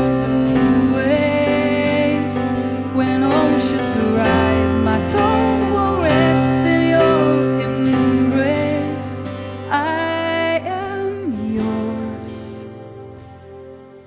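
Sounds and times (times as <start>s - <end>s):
person singing long notes: 0.0s - 12.9s
guitar and keyboard chords: 0.0s - 14.0s.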